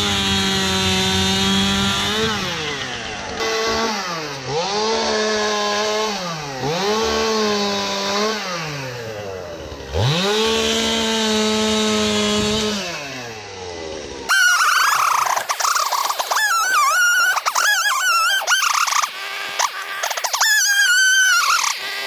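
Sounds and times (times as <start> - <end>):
chainsaw revving at full throttle: 0.0 - 22.0.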